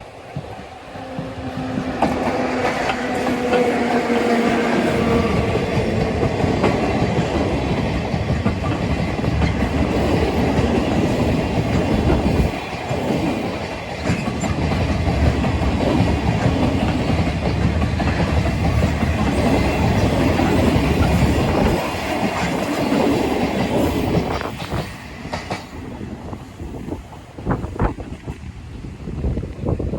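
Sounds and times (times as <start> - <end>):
wheels clacking over rail joints: 0.0 - 25.8
steel wheels rumbling: 0.0 - 29.9.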